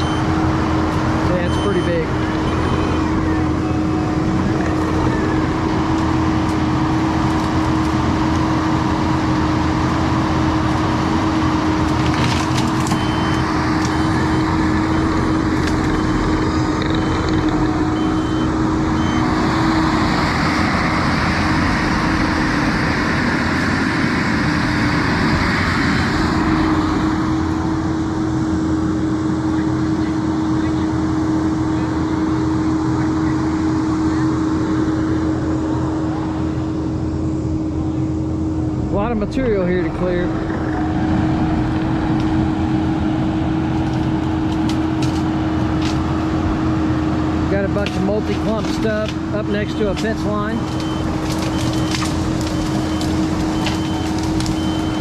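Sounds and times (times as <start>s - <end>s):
loader engine humming: 0.0s - 55.0s.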